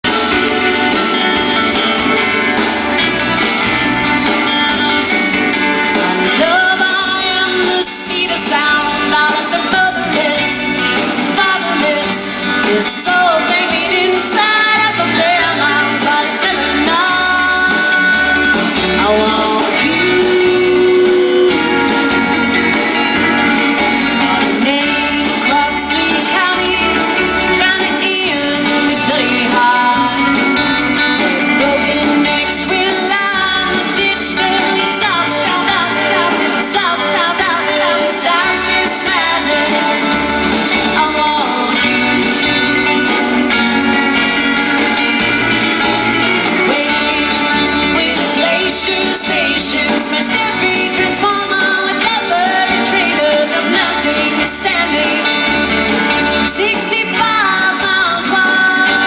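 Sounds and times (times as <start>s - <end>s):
live band with guitars and bass: 0.0s - 59.0s
woman singing lead: 0.0s - 59.0s.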